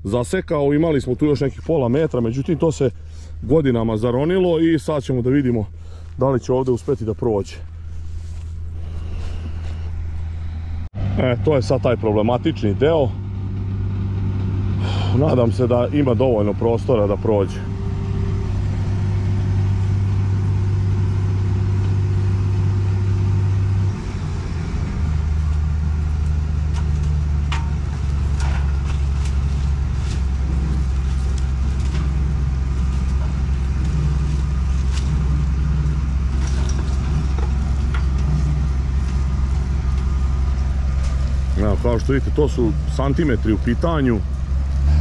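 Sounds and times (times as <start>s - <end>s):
combine harvester diesel engine: 0.0s - 45.0s.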